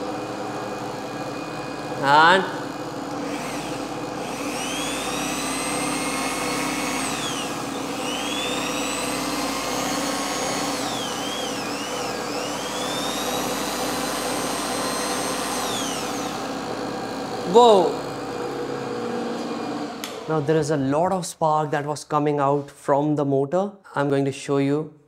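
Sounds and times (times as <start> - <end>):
electric drill whine: 0.0 - 20.4
motor and generator hum: 0.0 - 20.5.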